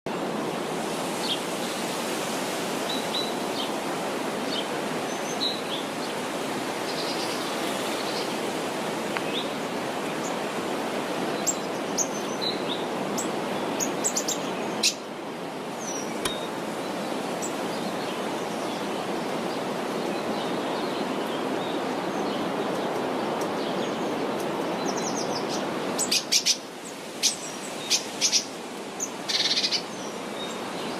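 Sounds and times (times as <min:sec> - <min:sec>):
songbirds chirping: 0:02.8 - 0:30.9.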